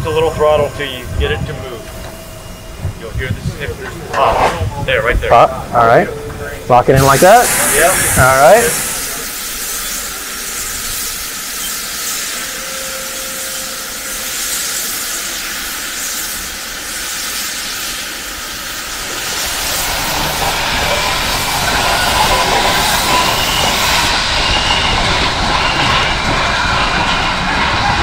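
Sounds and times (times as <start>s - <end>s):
moving train running: 0.0s - 28.0s
steam hissing: 0.0s - 28.0s.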